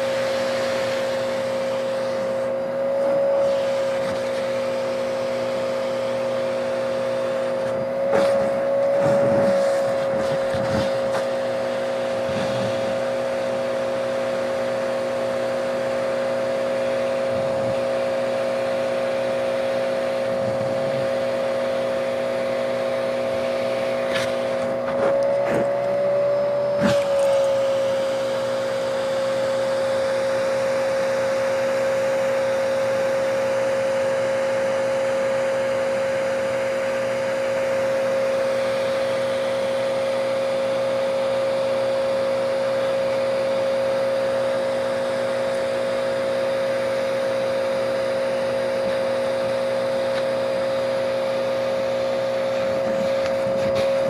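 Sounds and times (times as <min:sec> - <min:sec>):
vacuum cleaner whine: 0:00.0 - 0:54.0.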